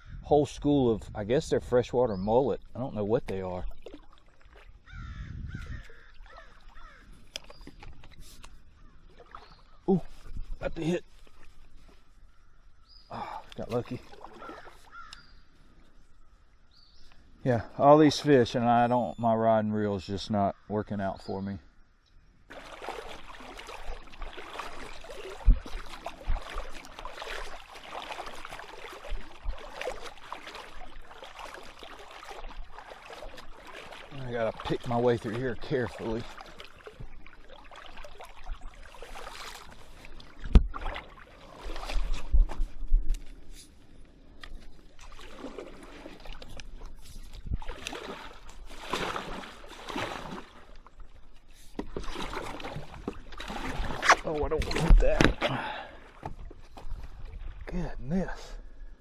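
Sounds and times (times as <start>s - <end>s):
creek water rippling and splashing: 0.0s - 21.6s, 22.3s - 59.0s.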